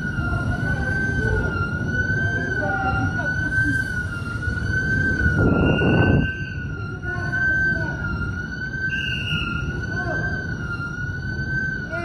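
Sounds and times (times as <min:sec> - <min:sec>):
higher siren tone: 0:00.0 - 0:12.0
siren wavering tone: 0:00.0 - 0:12.0.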